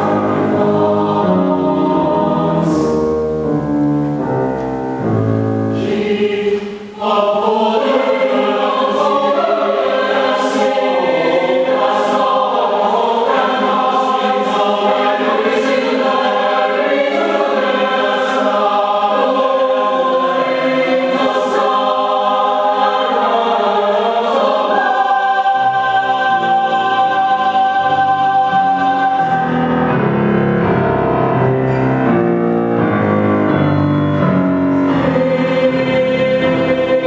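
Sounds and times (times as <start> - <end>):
mixed choir singing: 0.0 - 4.2, 5.5 - 31.0, 32.3 - 37.0.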